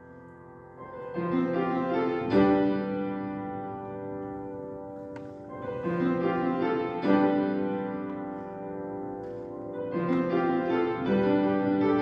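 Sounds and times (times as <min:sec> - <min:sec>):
piano background music: 0:00.0 - 0:12.0.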